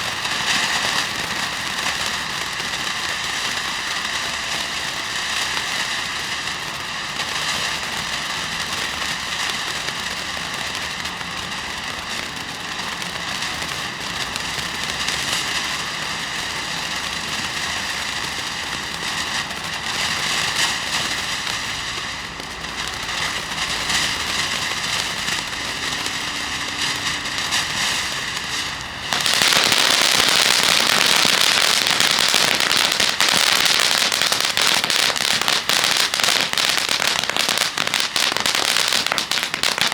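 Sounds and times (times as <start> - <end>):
firework fountain hissing and crackling: 0.0 - 39.9.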